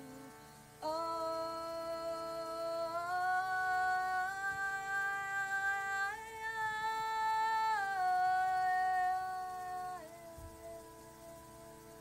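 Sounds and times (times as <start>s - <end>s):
woman singing long held notes: 0.0s - 12.0s.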